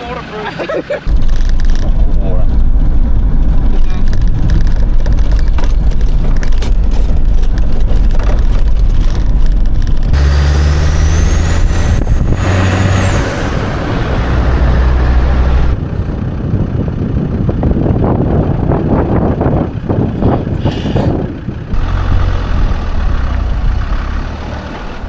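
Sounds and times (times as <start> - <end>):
vehicle engine under load: 0.0 - 25.0.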